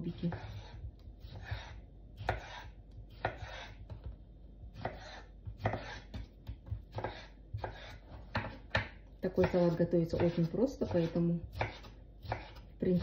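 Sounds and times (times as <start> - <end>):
knife slicing on cutting board: 0.1 - 3.9, 4.7 - 8.7, 9.4 - 13.0.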